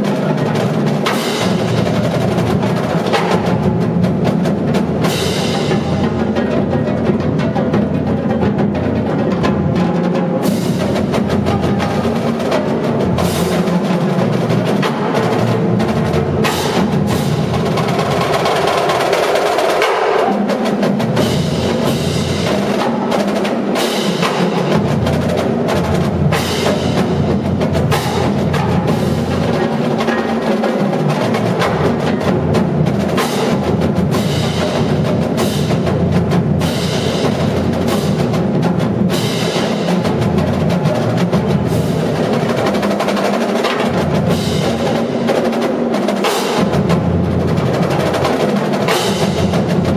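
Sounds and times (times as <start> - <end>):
marching drumline playing: 0.0 - 49.9.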